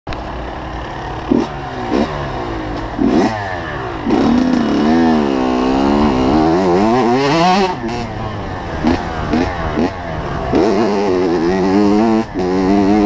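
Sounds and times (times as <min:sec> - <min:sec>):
two-stroke motocross bike engine revving: 0:00.3 - 0:13.0.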